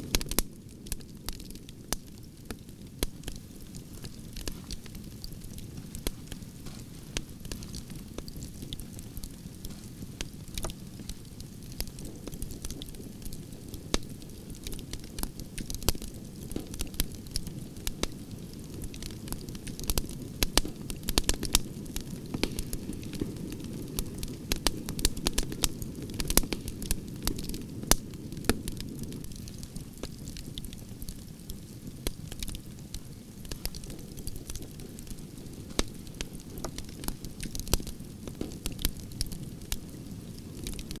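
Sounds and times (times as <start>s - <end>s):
campfire burning: 0.0s - 41.0s
fire crackling and popping: 0.0s - 41.0s.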